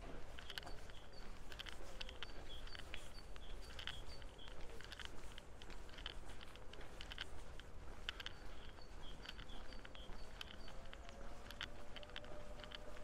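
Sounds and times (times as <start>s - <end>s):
low wind rumble on microphone: 0.0s - 13.0s
small birds chirping: 0.3s - 13.0s.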